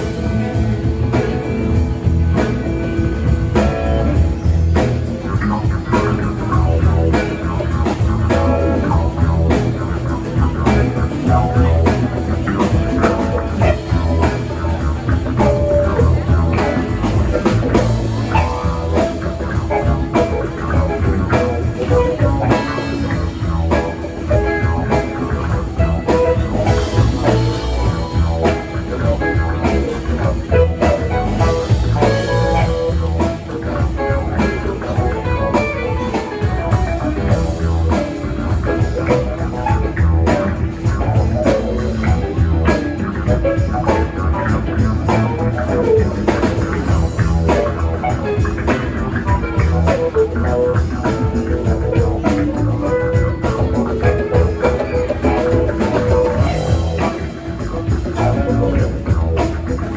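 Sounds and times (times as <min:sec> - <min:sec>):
drum kit beat: 0:00.0 - 0:59.9
electric guitar: 0:00.0 - 0:59.9.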